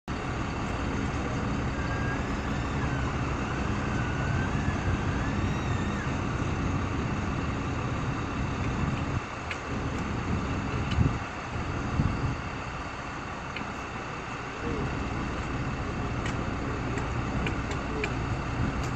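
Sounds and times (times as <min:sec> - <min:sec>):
heavy vehicle engine rumbling: 0:00.0 - 0:18.9.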